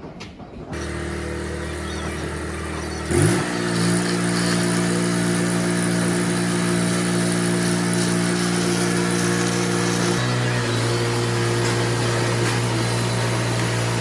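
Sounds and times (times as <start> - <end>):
engine-driven welder running: 0.7 - 14.0.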